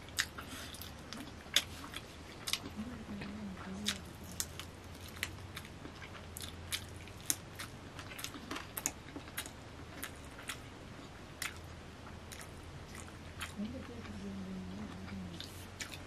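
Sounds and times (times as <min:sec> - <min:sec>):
man chewing wetly: 0:00.0 - 0:14.2, 0:14.8 - 0:16.0
faint low hum: 0:00.0 - 0:16.0.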